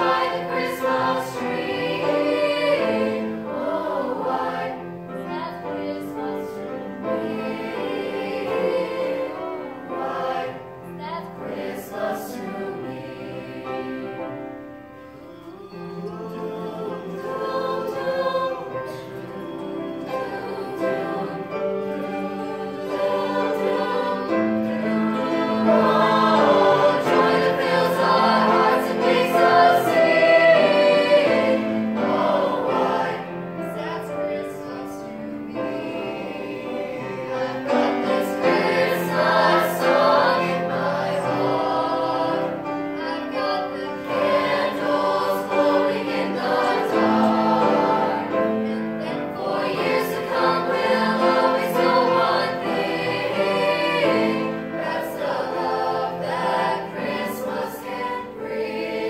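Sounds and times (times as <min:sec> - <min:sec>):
girls' choir singing: 0:00.0 - 0:59.0.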